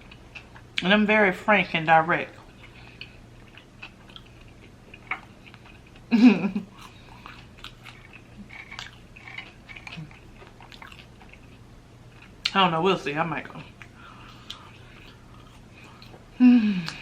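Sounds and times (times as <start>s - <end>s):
person chewing food: 0.0s - 0.9s, 2.3s - 12.6s, 13.5s - 17.0s.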